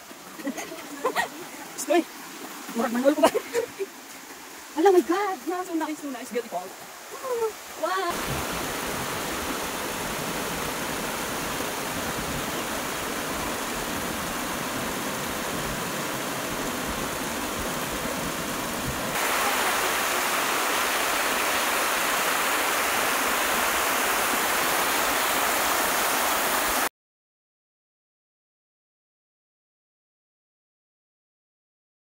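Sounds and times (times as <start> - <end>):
waterfall rushing over rock: 0.0 - 26.9.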